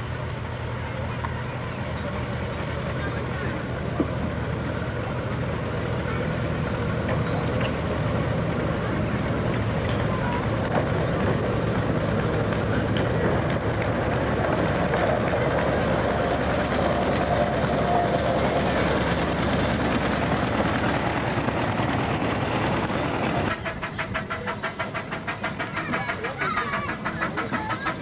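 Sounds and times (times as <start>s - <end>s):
diesel locomotive passing: 0.0s - 28.0s
steam locomotive chuffing: 0.0s - 28.0s.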